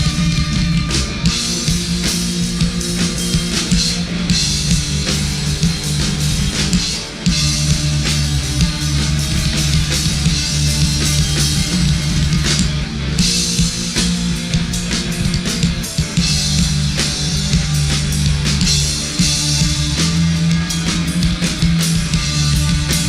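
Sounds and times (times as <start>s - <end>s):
drum kit with cymbal hits: 0.0s - 23.0s
electric guitar: 0.0s - 23.0s
sustained low bass notes: 0.0s - 23.0s.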